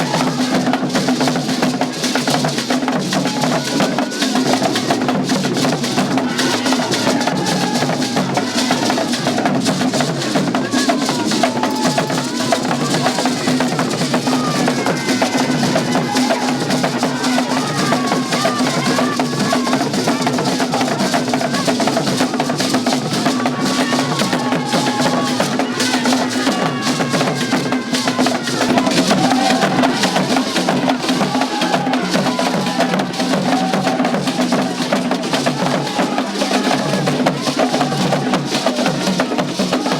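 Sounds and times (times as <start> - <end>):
clacking wood block beat: 0.0 - 39.9
driving drumming and percussion: 0.0 - 39.9
voices singing: 0.0 - 39.9.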